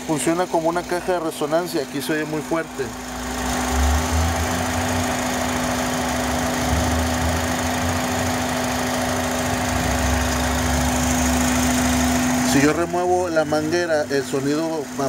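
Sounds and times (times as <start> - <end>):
car engine idling with whistling hum: 0.0 - 15.0.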